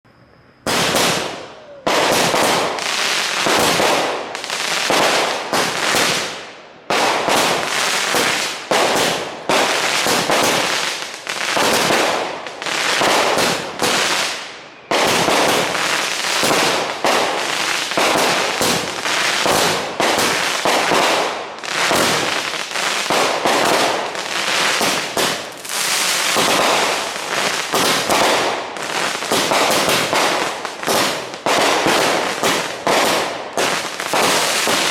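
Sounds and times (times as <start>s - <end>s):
fireworks bangs and crackle: 0.6s - 34.9s.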